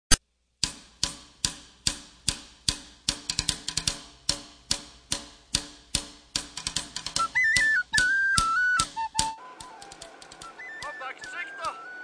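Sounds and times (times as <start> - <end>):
music with percussive beat: 0.6 - 12.0.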